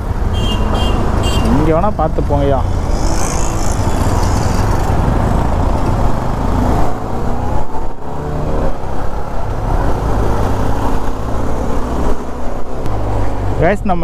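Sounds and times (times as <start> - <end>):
motorcycle engine and exhaust: 0.0 - 13.7.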